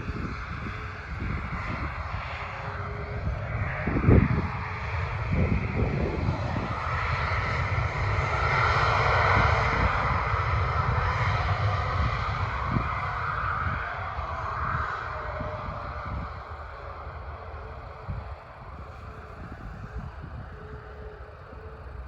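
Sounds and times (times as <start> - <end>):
aircraft engines roaring past: 0.0 - 22.0
wind buffeting microphone: 0.0 - 22.0.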